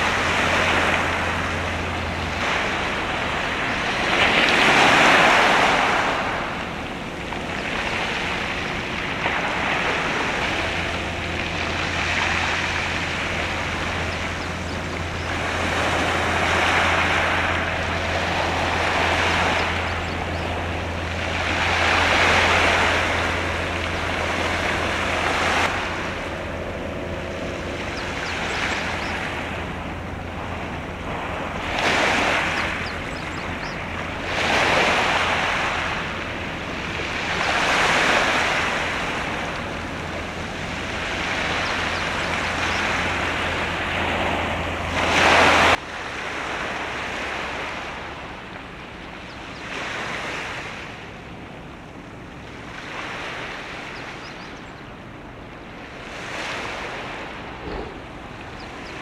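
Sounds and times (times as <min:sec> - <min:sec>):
steady low hum: 0:00.0 - 0:59.0
waves washing in: 0:00.0 - 0:59.0.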